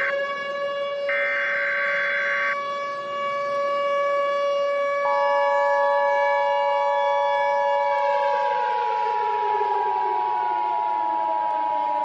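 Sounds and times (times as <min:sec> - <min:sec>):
civil defense siren: 0:00.0 - 0:12.0.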